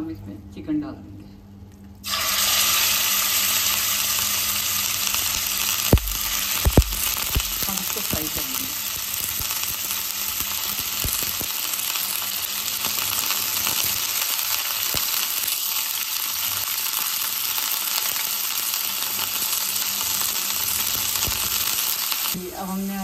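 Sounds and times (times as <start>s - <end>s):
chicken sizzling in hot oil: 2.0s - 23.0s.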